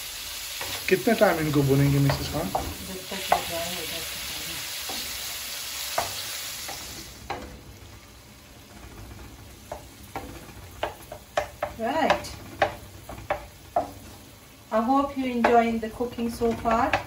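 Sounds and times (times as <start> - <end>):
meat sizzling in a pan: 0.0 - 17.0
spatula scraping a pan: 1.7 - 14.4, 15.3 - 17.0.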